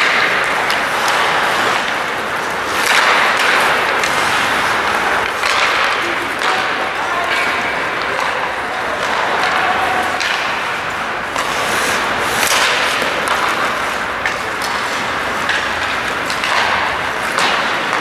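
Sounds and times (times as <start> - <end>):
arena noise: 0.0 - 18.0
hockey sticks clacking: 0.0 - 18.0
skate blades scraping ice: 0.0 - 18.0.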